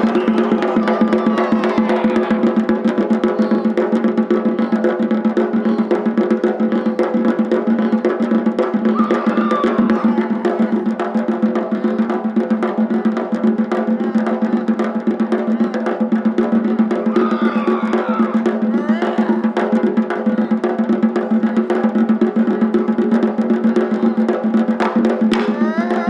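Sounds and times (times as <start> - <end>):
taiko drums fast drumming: 0.0 - 26.0.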